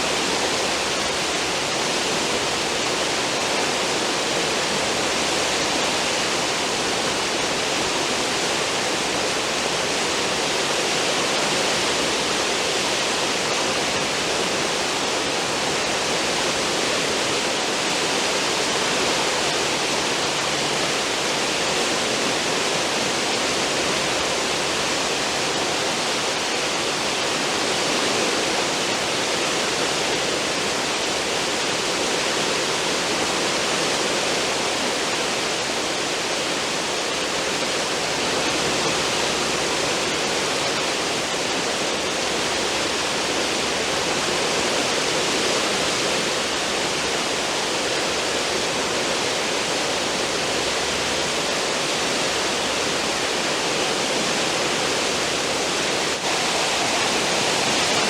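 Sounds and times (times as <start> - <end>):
ship wake churning water: 0.0 - 58.0.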